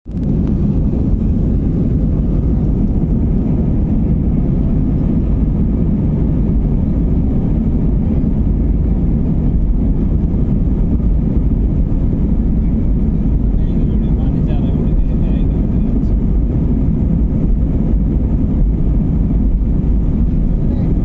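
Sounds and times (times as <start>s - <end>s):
airframe rumble: 0.0s - 21.0s
jet engines roaring: 0.1s - 21.0s.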